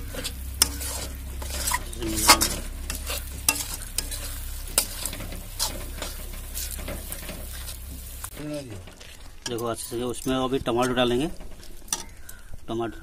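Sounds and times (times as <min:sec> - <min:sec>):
spatula scraping metal pan: 0:00.0 - 0:12.4
paste sizzling: 0:00.0 - 0:12.6
steady low hum: 0:00.0 - 0:12.6.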